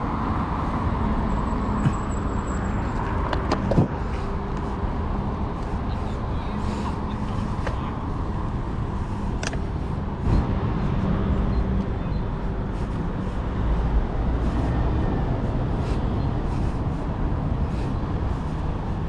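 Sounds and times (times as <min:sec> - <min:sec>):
rumble of wind and road: 0:00.0 - 0:19.0.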